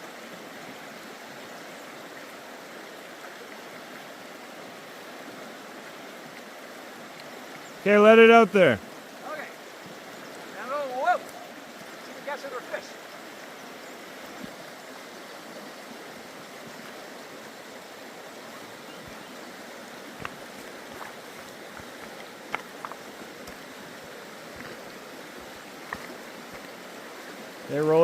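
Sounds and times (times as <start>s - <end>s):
creek water flowing over stones: 0.0s - 28.0s.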